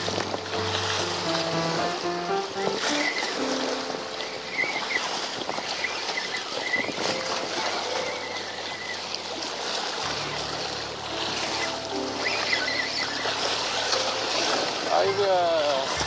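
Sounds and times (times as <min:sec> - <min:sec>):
moving water at seashore: 0:00.0 - 0:16.0.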